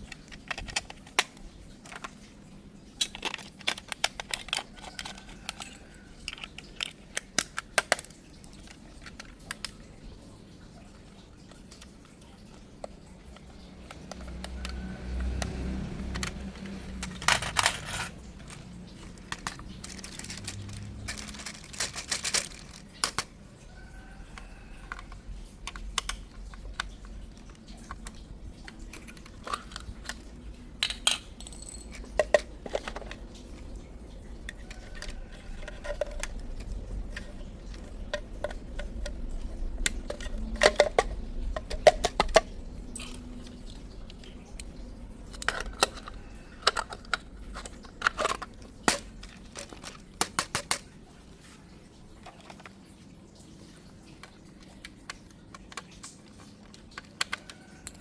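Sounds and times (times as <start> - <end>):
plastic and cardboard rustling: 0.0 - 10.4, 11.1 - 58.0.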